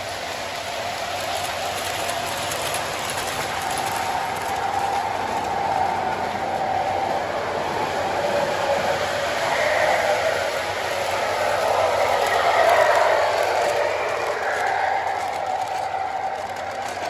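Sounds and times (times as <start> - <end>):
model train whirring on rails: 0.0 - 17.0.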